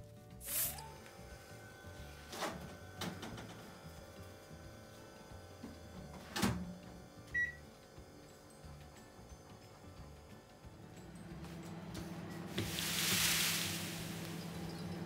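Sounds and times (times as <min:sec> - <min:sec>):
microwave oven humming: 0:00.5 - 0:12.8, 0:13.8 - 0:15.0.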